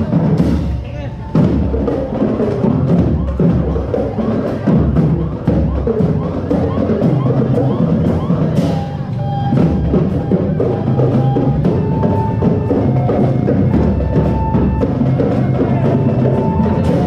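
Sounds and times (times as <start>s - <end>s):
drums beating steady rhythm: 0.0s - 17.0s.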